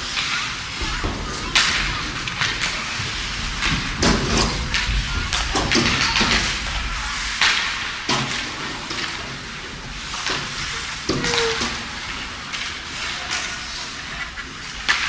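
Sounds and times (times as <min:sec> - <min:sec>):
skates hissing on ice: 0:00.0 - 0:15.0
hockey sticks and puck knocking: 0:00.1 - 0:15.0.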